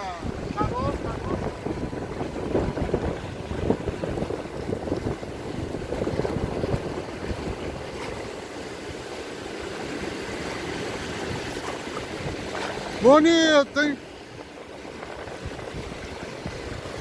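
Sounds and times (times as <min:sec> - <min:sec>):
sea water washing around boat: 0:00.0 - 0:17.0
wind buffeting microphone: 0:00.0 - 0:17.0.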